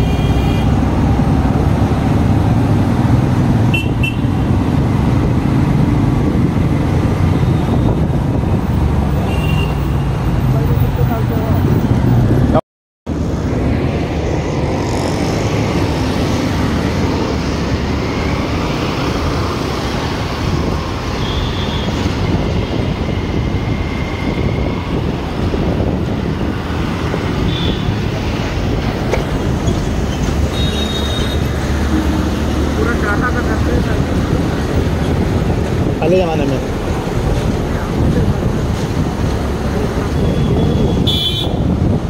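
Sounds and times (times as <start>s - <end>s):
road and wind noise: 0.0s - 42.0s.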